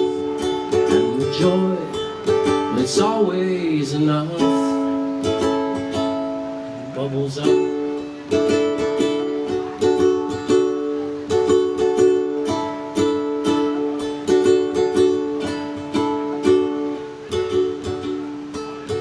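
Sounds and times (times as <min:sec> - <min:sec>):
acoustic strings strummed chords: 0:00.0 - 0:19.0.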